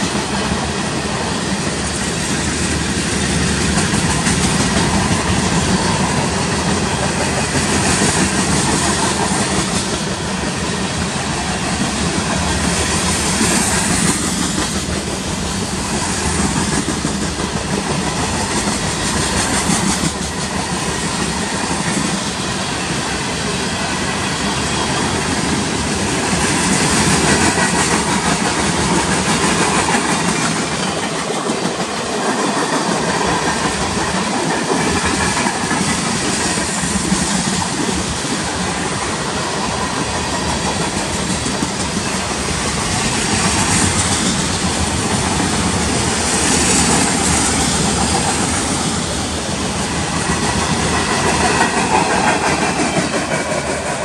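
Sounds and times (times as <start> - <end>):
freight train cars rolling past: 0.0 - 54.0.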